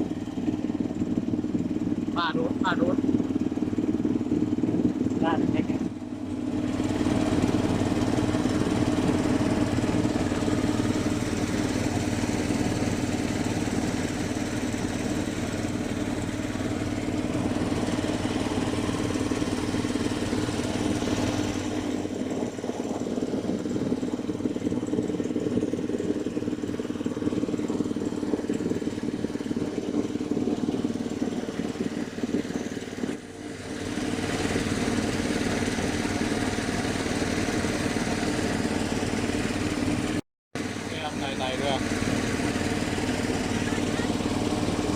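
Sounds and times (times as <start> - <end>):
boat engine running: 0.0 - 44.9.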